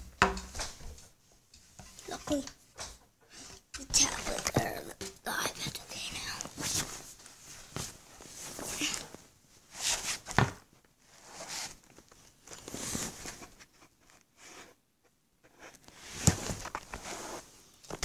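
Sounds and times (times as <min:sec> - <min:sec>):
rustling and handling noises: 0:00.0 - 0:18.0.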